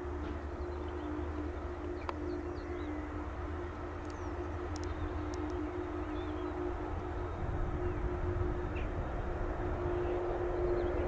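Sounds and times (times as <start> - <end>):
birds chirping faintly: 0.0 - 11.0
distant jet engines idling: 0.0 - 11.0.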